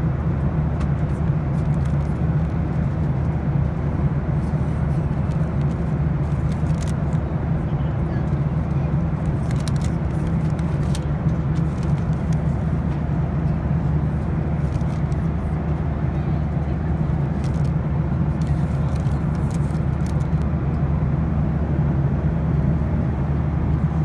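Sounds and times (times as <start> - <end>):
airplane cabin drone: 0.0 - 24.0.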